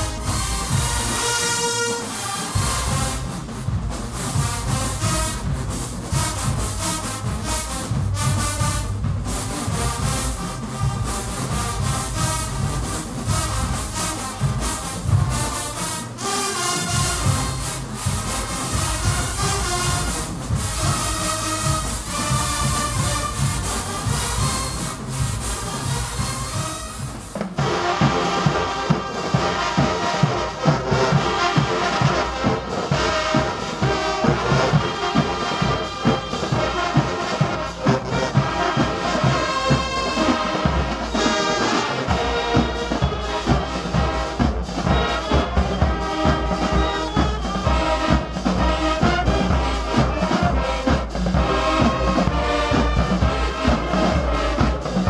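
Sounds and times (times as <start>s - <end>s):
marching band brass and drums: 0.0s - 55.0s.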